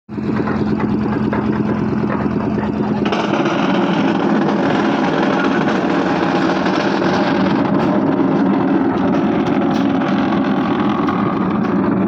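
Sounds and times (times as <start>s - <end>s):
machinery engine running: 0.1s - 12.0s.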